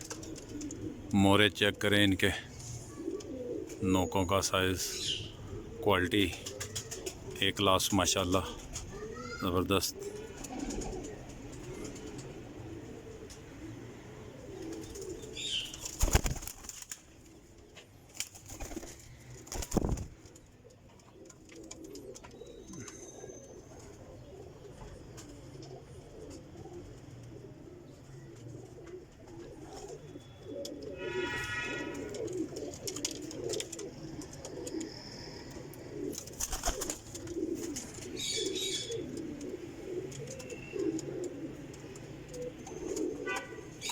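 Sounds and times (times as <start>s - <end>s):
pigeons cooing: 0.0s - 43.9s.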